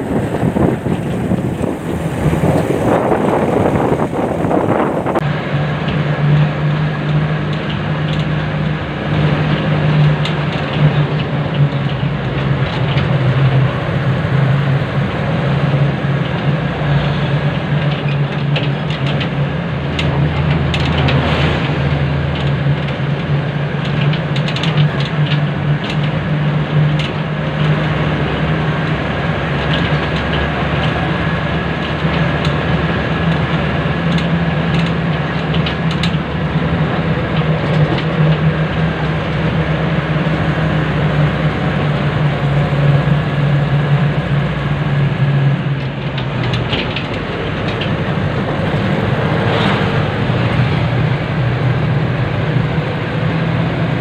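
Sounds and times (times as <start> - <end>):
car engine humming: 0.0 - 24.3, 25.4 - 54.0
wind and road noise: 0.0 - 54.0.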